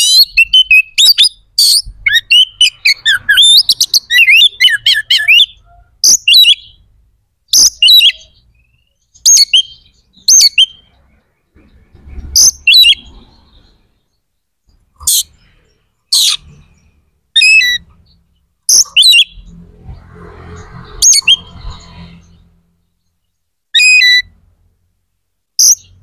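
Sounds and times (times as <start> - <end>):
bird singing: 0.0 - 24.5, 25.6 - 26.0.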